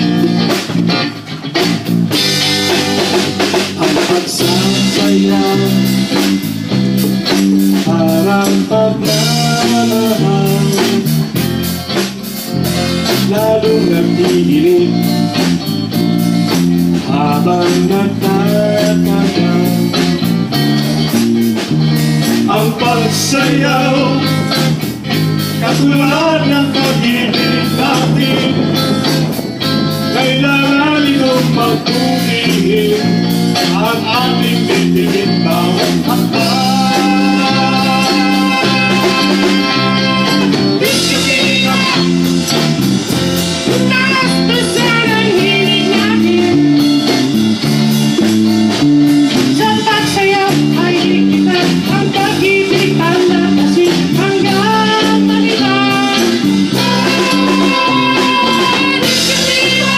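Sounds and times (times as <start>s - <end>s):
bass line: 0.0s - 59.9s
drum-kit beat: 0.0s - 59.9s
electric guitars: 0.0s - 59.9s
keyboard: 0.0s - 59.9s
sung vocals: 2.1s - 59.9s.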